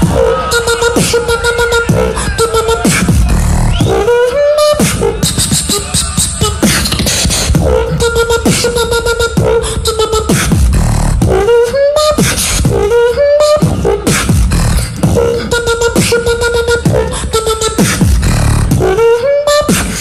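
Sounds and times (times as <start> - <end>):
beatboxed kick and snare hits: 0.0 - 20.0.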